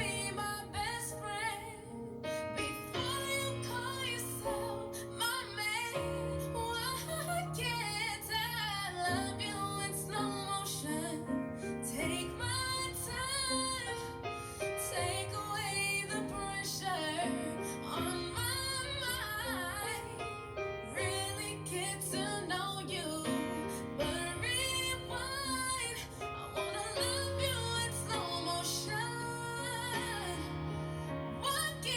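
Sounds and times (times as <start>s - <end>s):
dream pop song: 0.0s - 31.9s
woman singing: 0.0s - 31.9s.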